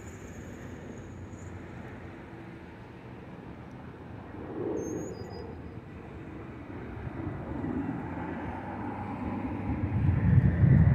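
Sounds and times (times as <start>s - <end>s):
car engine and tyre noise: 0.0s - 10.9s.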